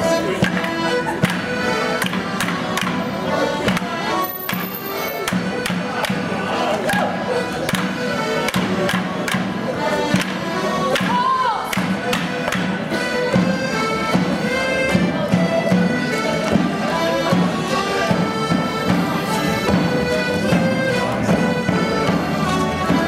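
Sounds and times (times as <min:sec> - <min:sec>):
folk band with accordions: 0:00.0 - 0:23.0.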